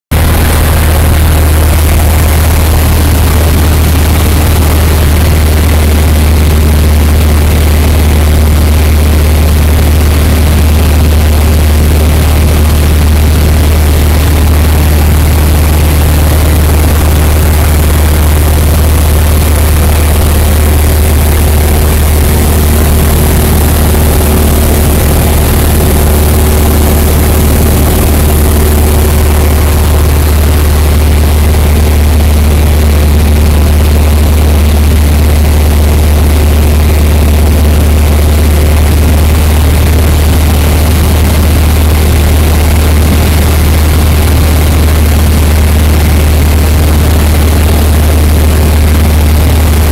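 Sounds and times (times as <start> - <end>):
propeller plane engine drone: 0.1 - 49.9.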